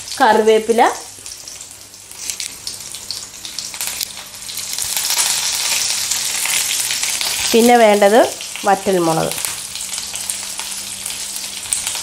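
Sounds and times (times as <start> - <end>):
shallots sizzling in hot oil: 0.0 - 12.0.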